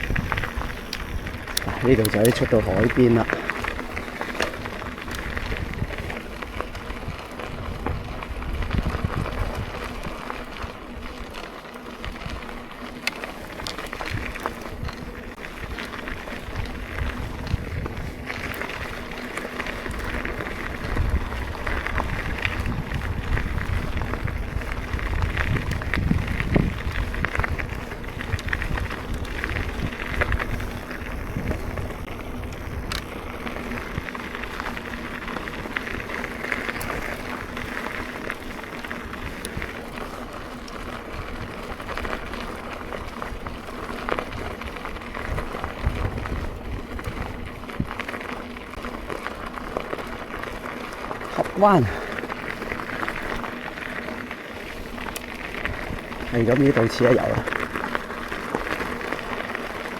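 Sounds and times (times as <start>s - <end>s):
bike tyre noise: 0.0s - 59.9s
wind rumble on microphone: 0.0s - 59.9s.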